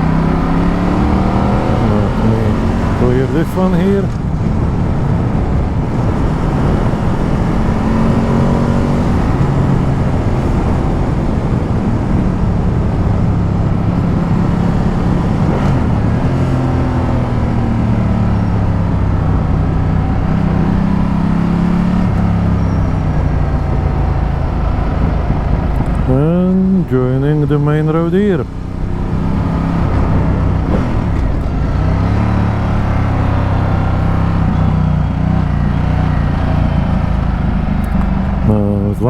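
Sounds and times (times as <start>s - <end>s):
motorcycle engine revving: 0.0s - 39.0s
wind and road noise: 0.0s - 39.0s.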